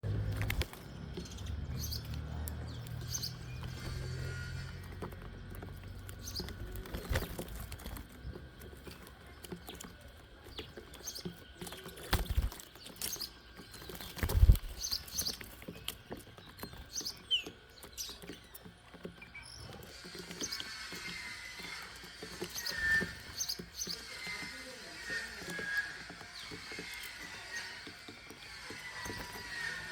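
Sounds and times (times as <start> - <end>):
birds pecking and hopping on feeder: 0.0 - 29.9
bird chirps: 0.1 - 29.9.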